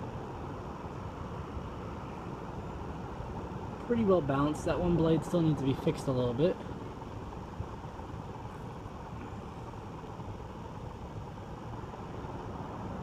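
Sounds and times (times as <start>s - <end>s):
ceiling fan air rushing: 0.0s - 13.0s.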